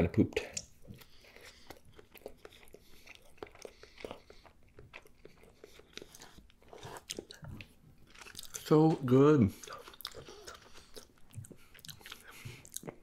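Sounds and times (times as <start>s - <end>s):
chewing food: 0.6s - 13.0s.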